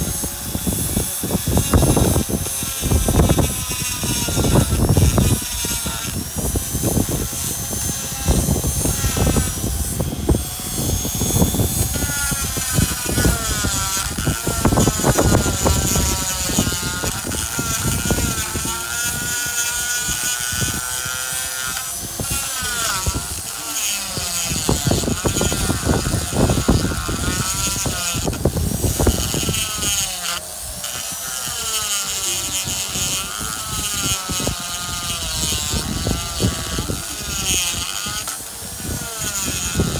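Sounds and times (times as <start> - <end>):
gritty scraping on stone: 0.0 - 39.9
rotary tool motor whine: 0.0 - 39.9.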